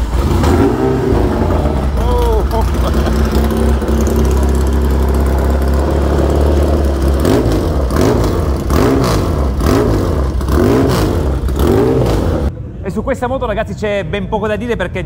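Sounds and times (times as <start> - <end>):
motorcycle engine idling and revving: 0.0 - 12.6.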